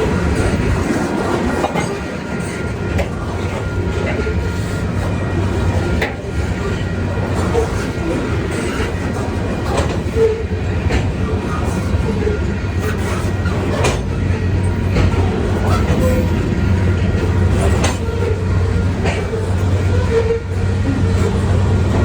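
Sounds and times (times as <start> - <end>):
train rumbling past: 0.0 - 22.0
wheels clicking over rail joints: 0.1 - 5.2, 5.9 - 22.0.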